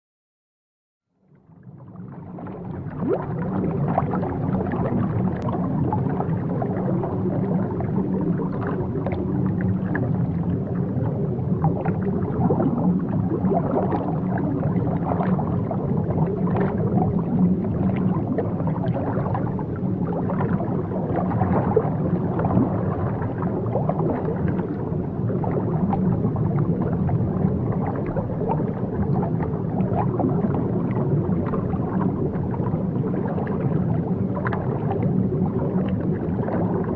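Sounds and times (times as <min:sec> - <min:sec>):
low underwater rumble: 0:01.2 - 0:36.9
water bubbling and gurgling: 0:01.2 - 0:36.9.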